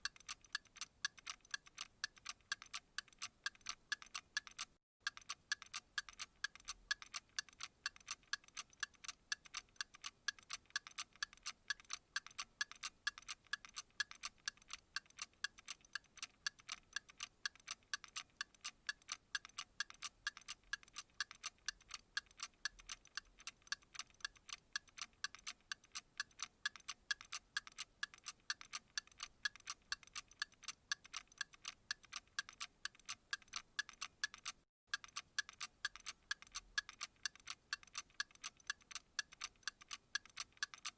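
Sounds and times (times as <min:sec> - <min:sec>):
clock ticking quickly: 0:00.0 - 0:40.9.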